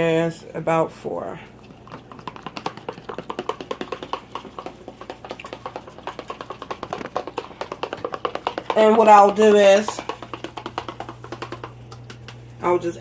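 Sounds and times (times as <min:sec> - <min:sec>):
utensil whisking in a cup: 0:01.5 - 0:13.0.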